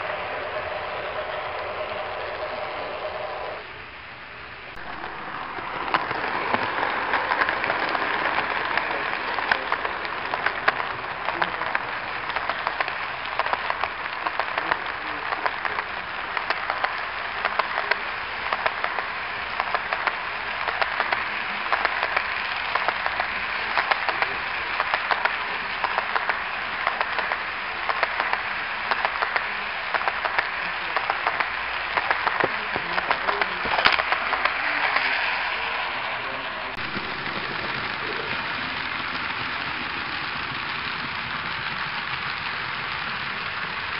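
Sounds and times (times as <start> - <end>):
model train rolling: 0.0 - 43.9
wheels clicking over rail joints: 4.6 - 43.9.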